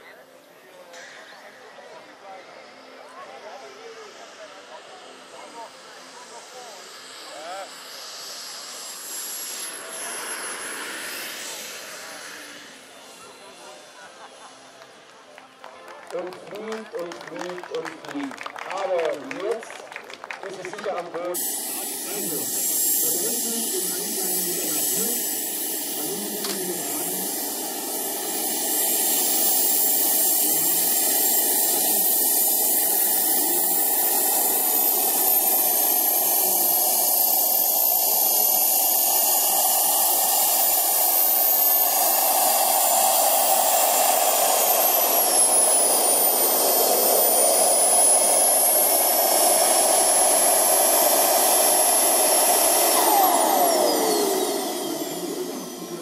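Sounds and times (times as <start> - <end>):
model jet engines whining: 0.0 - 56.0.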